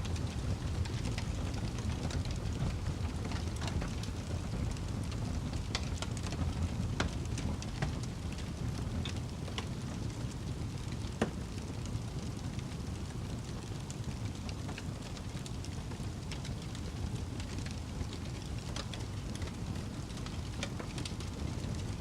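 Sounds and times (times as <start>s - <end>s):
fire crackling with pops: 0.0s - 22.0s.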